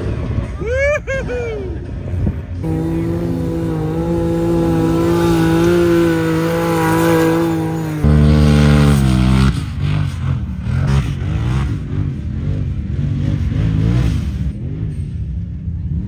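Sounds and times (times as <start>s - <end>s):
deeper engine sound: 0.0s - 16.0s
engine at high revs: 2.6s - 16.0s.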